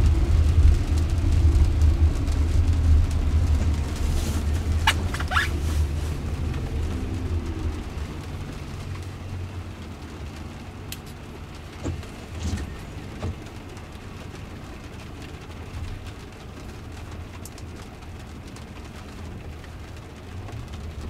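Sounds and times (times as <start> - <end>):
windshield wiper swishes: 0.0 - 17.8.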